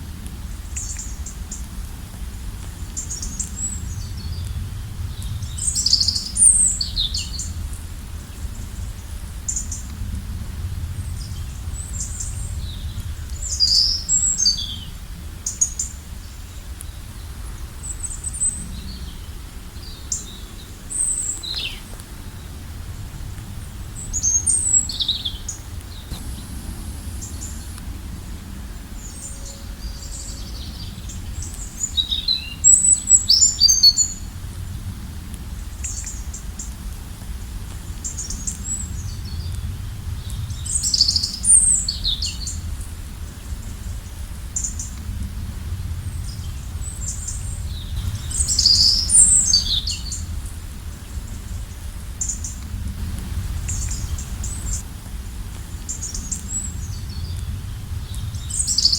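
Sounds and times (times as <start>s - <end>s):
steady low rumble: 0.0s - 58.9s.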